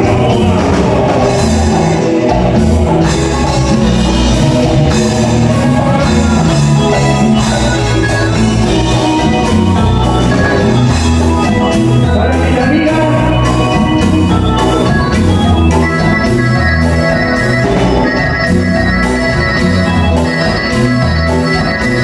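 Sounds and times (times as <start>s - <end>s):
congas: 0.0s - 22.0s
drum kit beat: 0.0s - 22.0s
electric bass line: 0.0s - 22.0s
electric guitar: 0.0s - 22.0s
organ-like keyboard: 0.0s - 22.0s.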